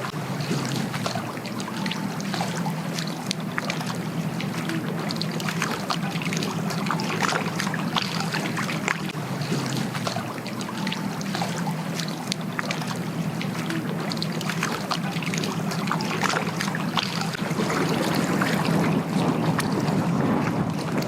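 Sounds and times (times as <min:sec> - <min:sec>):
steady low hum: 0:00.0 - 0:21.0
water slapping against boat: 0:00.0 - 0:21.0.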